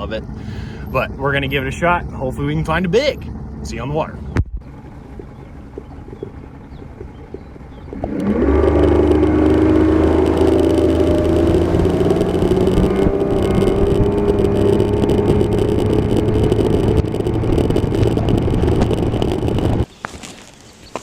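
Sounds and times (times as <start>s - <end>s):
outboard motor running: 0.0s - 19.9s.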